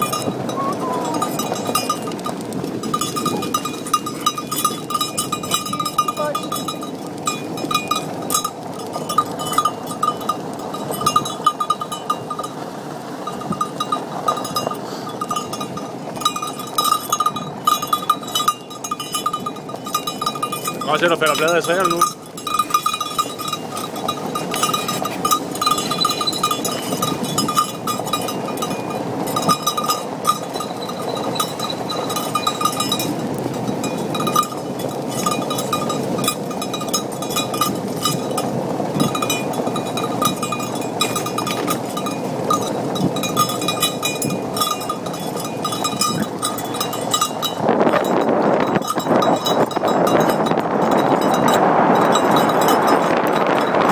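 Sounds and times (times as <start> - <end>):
high metallic ringing: 0.0 - 12.6, 13.2 - 53.9
tyres rolling on dirt track: 0.0 - 53.9
wind: 0.0 - 53.9.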